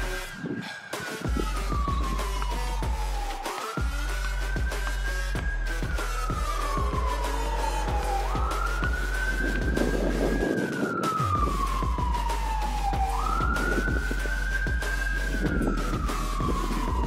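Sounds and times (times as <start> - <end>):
background music with steady beat: 0.0 - 17.0
siren-like wail: 0.0 - 17.0.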